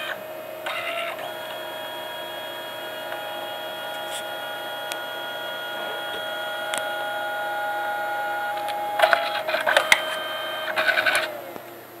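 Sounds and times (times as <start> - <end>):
printer motor whine: 0.0 - 12.0.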